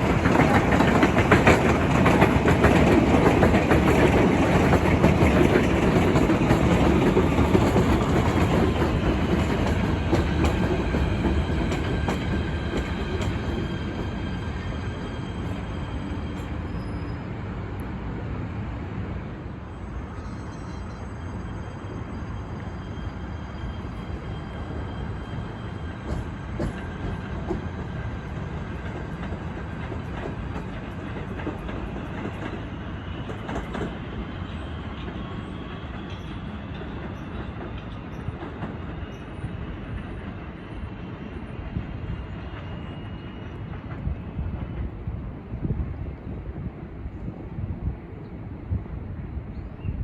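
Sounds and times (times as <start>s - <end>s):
train rumbling on rails: 0.0s - 50.0s.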